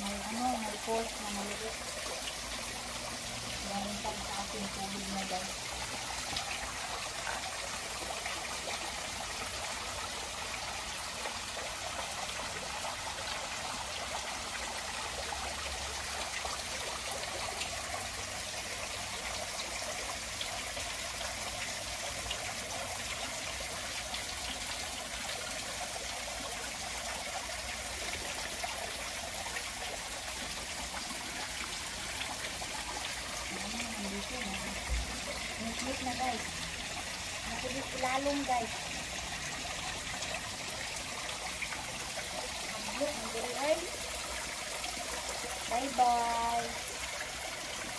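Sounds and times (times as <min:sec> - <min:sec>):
waterfall splashing into pool: 0:00.0 - 0:47.9.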